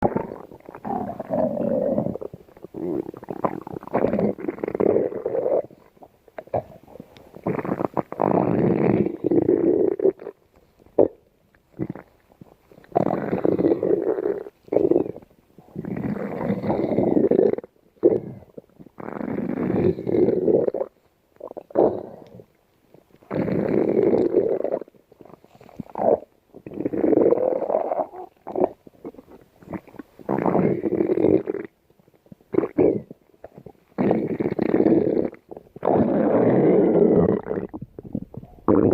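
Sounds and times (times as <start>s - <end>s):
stomach growling: 0.0s - 38.9s.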